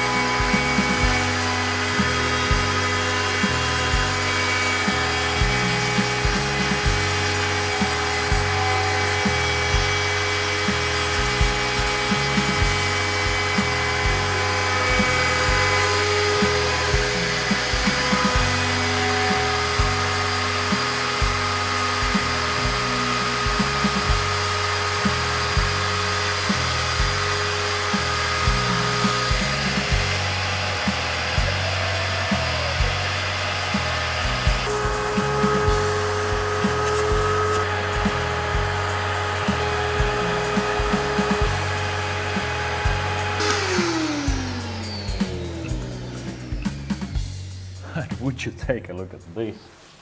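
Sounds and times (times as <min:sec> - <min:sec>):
router spindle whining cutting wood: 0:00.0 - 0:47.5
background music with steady beat: 0:00.0 - 0:49.5.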